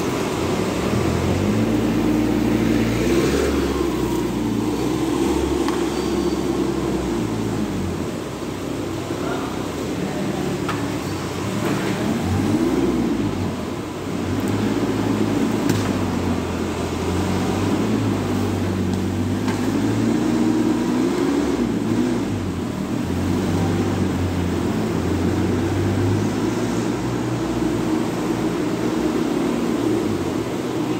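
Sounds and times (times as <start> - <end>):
forklift engine revving: 0.0 - 30.9.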